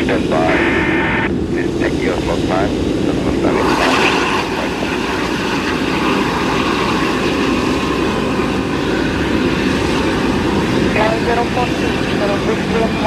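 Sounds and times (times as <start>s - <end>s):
faint whine tones: 0.0s - 13.0s
jet engines rushing: 0.0s - 13.0s.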